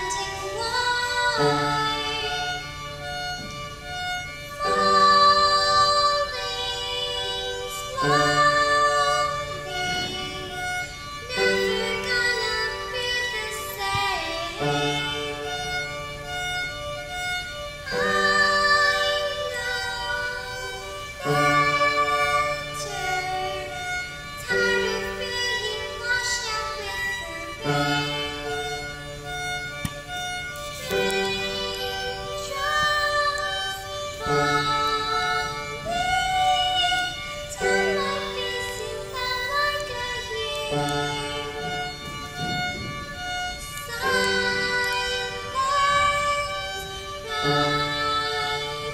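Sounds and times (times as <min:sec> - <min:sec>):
violin slow melody: 0:00.0 - 0:48.9.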